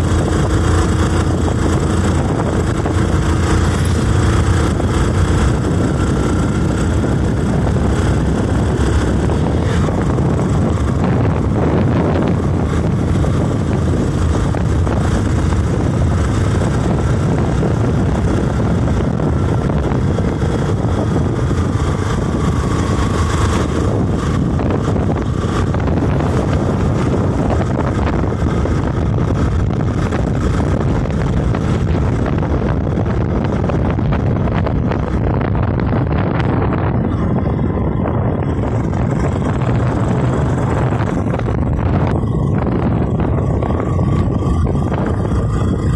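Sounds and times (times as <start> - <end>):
road vehicle engine and tyres: 0.0 - 45.9
wind on microphone: 0.0 - 45.9.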